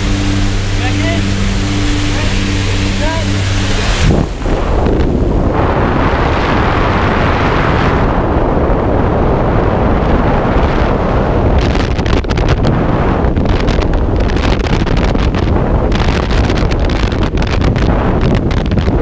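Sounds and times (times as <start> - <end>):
crackling wind buffeting: 0.0 - 19.0
wind roaring over microphone: 0.0 - 19.0.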